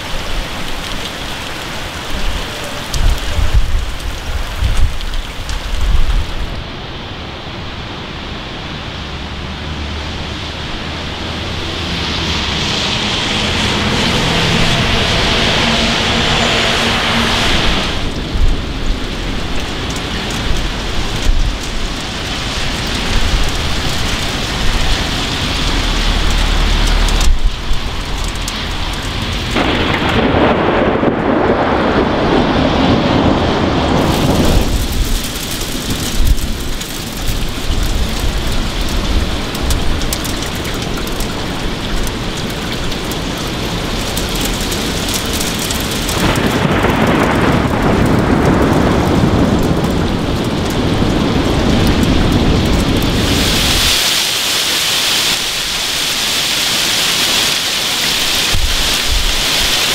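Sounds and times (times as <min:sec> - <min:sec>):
thunder rumbling: 0:00.0 - 0:54.0, 0:57.8 - 0:59.9
steady rain: 0:00.0 - 0:59.9.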